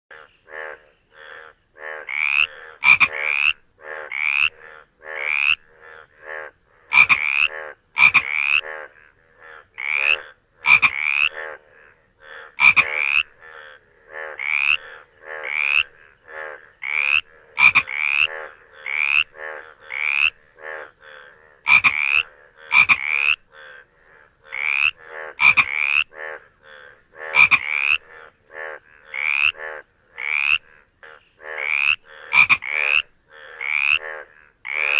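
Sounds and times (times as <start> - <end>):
frogs croaking: 0.1 - 34.9.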